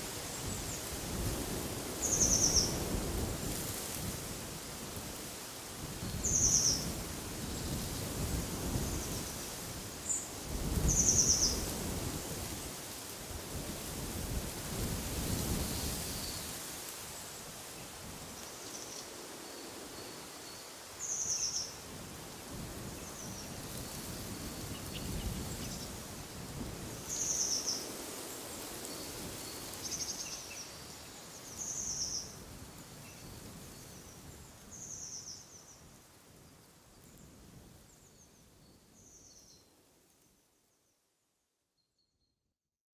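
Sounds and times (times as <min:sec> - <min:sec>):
wind rushing in trees: 0:00.0 - 0:40.4.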